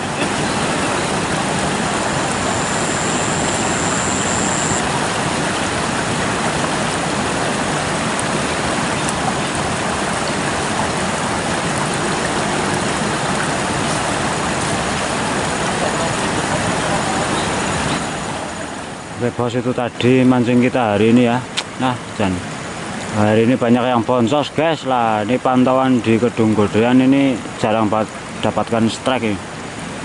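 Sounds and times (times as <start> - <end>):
river flowing over rocks: 0.0 - 30.0.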